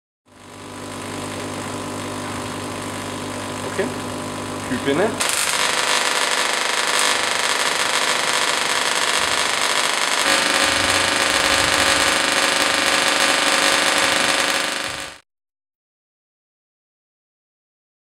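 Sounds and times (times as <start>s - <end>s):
tesla coil electric buzz: 0.3s - 15.2s.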